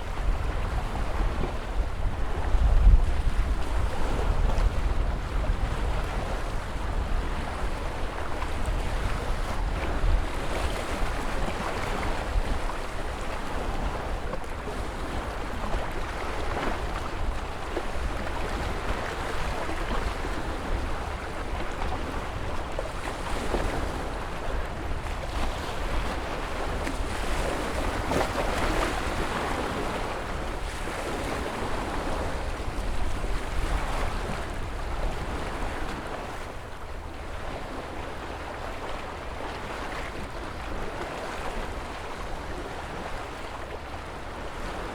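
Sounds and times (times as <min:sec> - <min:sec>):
wind on microphone: 0:00.0 - 0:38.5
deep rumble of surf: 0:00.0 - 0:44.9
waves breaking and washing: 0:00.0 - 0:44.9.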